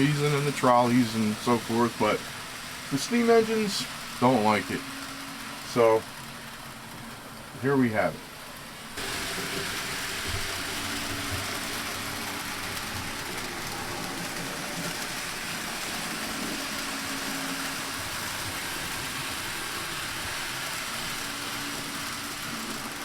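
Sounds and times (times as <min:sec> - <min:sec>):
model train motor whirring: 0:00.0 - 0:23.0.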